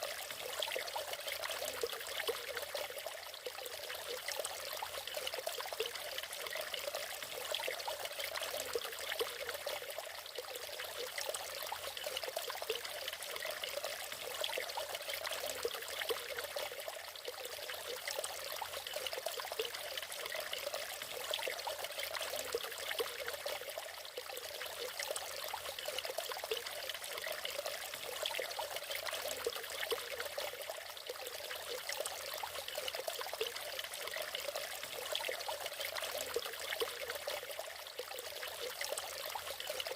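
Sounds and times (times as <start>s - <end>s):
waterfall: 0.0s - 39.9s.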